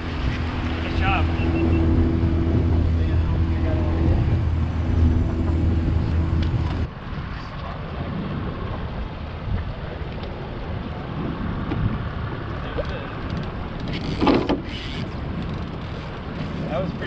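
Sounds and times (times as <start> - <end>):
boat motor humming: 0.0 - 6.9, 10.0 - 17.0
water noise: 0.0 - 17.0
wind on microphone: 0.0 - 17.0.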